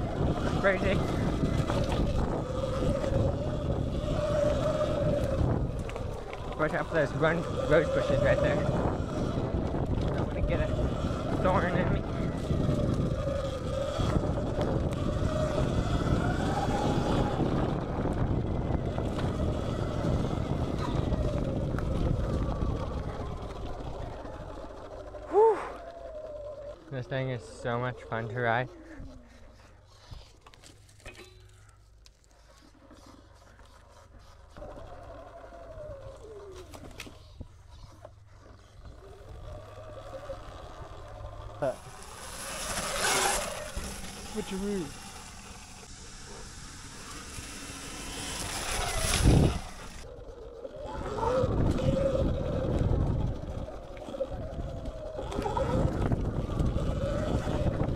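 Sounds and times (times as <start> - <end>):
wind noise on microphone: 0.0 - 30.3, 34.5 - 57.9
electric dirt bike motor whine: 0.0 - 31.6, 32.8 - 57.9.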